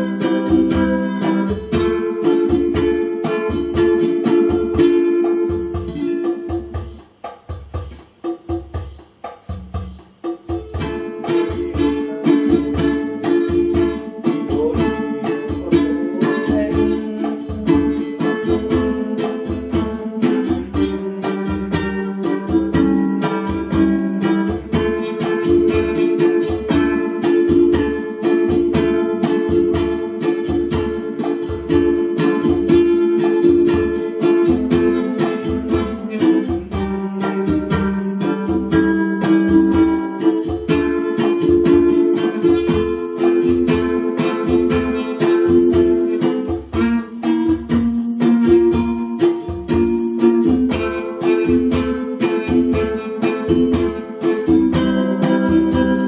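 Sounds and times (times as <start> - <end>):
ukulele playing melody over chords: 0.0 - 56.0.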